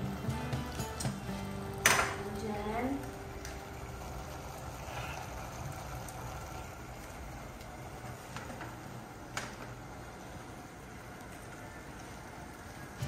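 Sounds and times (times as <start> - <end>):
meat cooking in a frying pan: 0.0 - 13.0
spaghetti boiling in a pot: 0.0 - 13.0.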